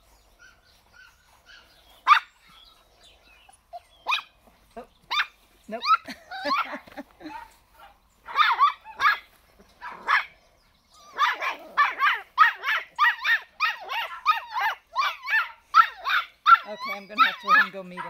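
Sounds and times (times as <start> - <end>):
dog yipping and barking: 0.4 - 2.6, 3.7 - 4.4, 5.1 - 10.3, 11.0 - 18.0.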